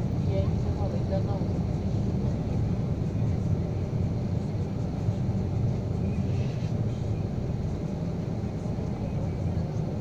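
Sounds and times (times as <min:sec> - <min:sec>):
car engine and tyre noise: 0:02.0 - 0:10.0.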